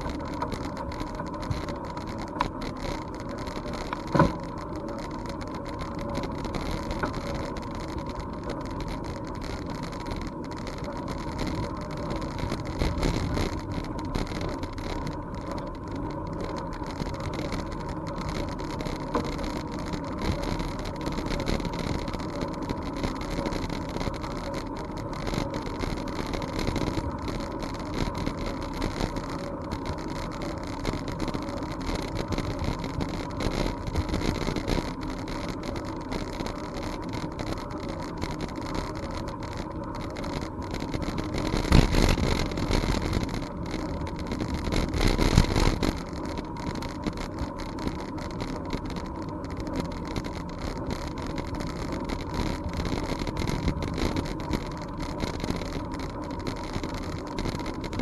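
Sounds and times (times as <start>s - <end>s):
bicycle tyres on path: 0.0s - 58.0s
small clicks and knocks: 0.0s - 58.0s.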